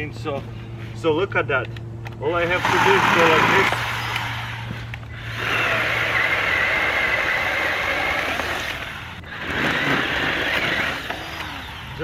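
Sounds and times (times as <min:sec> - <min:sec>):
electric chainsaw cutting branches: 0:02.4 - 0:12.0.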